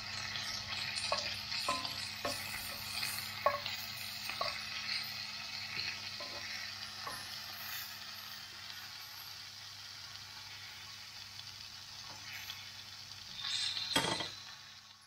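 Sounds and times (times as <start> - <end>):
chops sizzling in a frying pan: 0.0 - 15.0.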